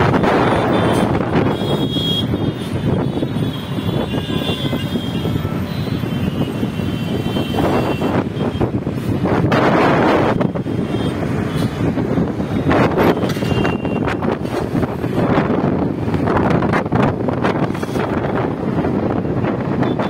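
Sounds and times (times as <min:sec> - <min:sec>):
road traffic noise: 0:00.0 - 0:20.0
wind on microphone: 0:00.0 - 0:20.0.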